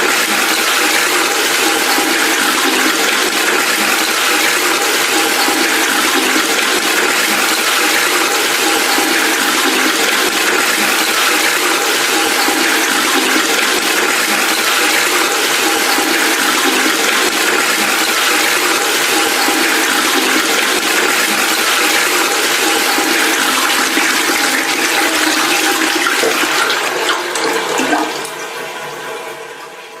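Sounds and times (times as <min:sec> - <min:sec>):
water rushing: 0:00.0 - 0:28.5.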